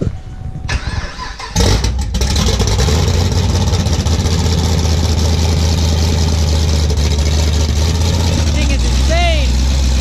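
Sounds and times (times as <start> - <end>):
loud car engine idling: 1.6 - 10.0.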